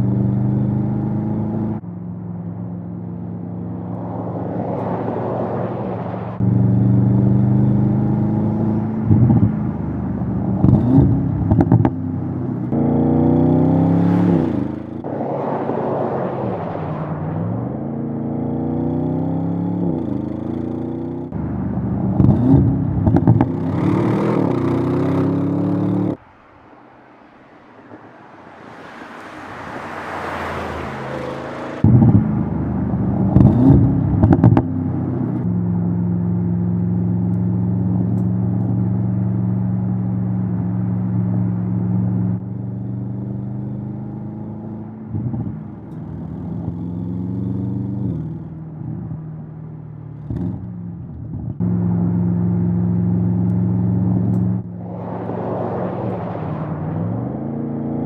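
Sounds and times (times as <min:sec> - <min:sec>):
car engine accelerating hard: 0:00.0 - 0:26.2, 0:28.7 - 0:58.0
rushing road noise: 0:00.0 - 0:58.0.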